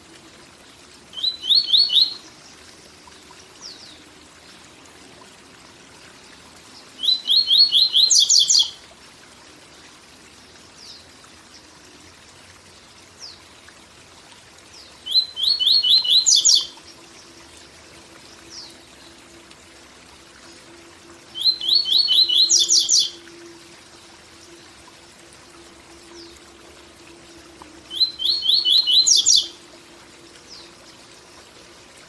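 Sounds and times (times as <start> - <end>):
waterfall hiss: 0.0 - 32.0
bird song of repeated notes: 0.5 - 8.9, 9.7 - 12.0, 12.7 - 13.8, 14.5 - 32.0.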